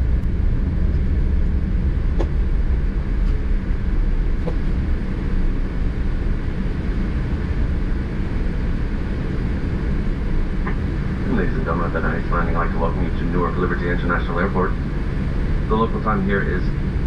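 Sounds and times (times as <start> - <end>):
airplane cabin rumble taxiing: 0.0 - 17.0.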